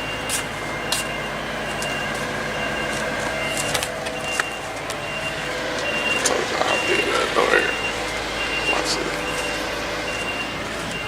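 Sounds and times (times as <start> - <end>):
heavy vehicle engine running: 0.0 - 11.0
reversing beeper: 0.0 - 11.0.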